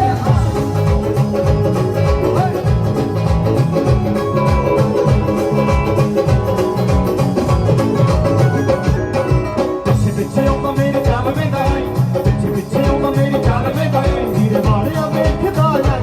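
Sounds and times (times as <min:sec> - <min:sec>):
drum and bass beat: 0:00.0 - 0:16.0
plucked-string melody: 0:00.0 - 0:16.0.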